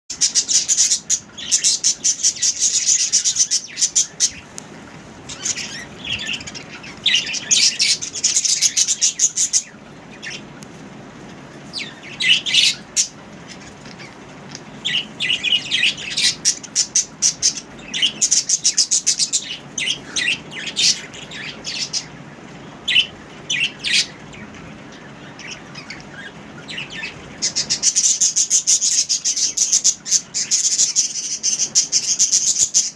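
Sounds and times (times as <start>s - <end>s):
budgies chirping: 0.1s - 32.9s.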